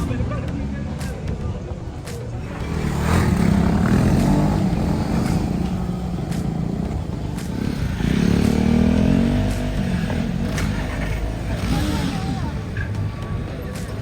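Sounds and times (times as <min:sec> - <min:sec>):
vehicle engine running and revving: 0:02.4 - 0:14.0.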